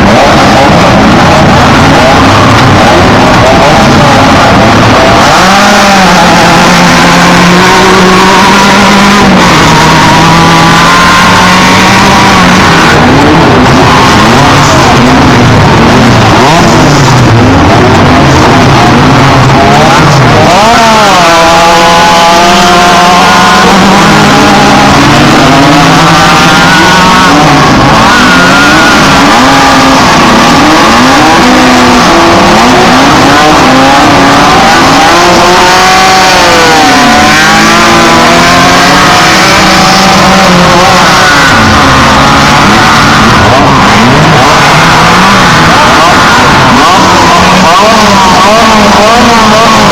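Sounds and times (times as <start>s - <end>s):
race truck engines revving: 0.0s - 49.9s.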